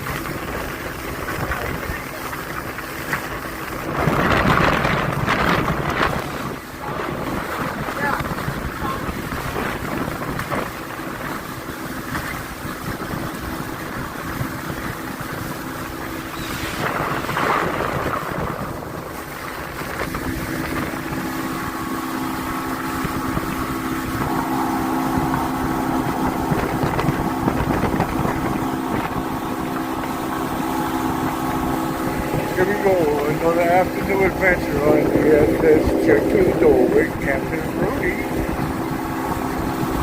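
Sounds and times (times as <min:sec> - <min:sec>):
motorboat engine running: 0:00.0 - 0:40.0
wind buffeting microphone: 0:00.0 - 0:40.0.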